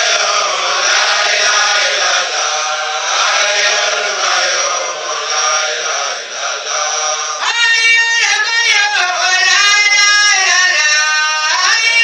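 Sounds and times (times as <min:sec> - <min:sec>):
high voice singing: 0:00.0 - 0:12.0
rough chanted sound: 0:00.0 - 0:12.0.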